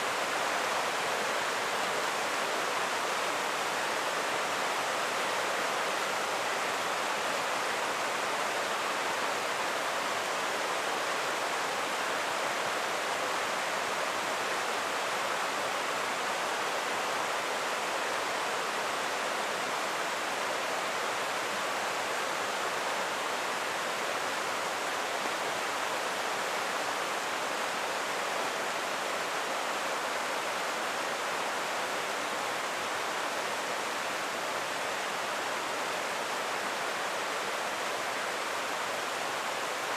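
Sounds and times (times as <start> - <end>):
creek flowing: 0.0 - 39.9.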